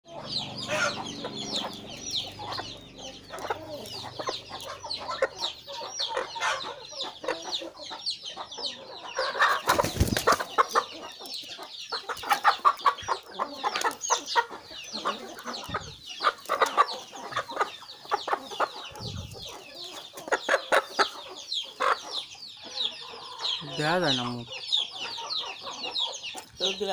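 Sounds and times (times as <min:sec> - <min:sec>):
chickens clucking: 0:00.1 - 0:26.9
high chirping calls: 0:00.1 - 0:26.9.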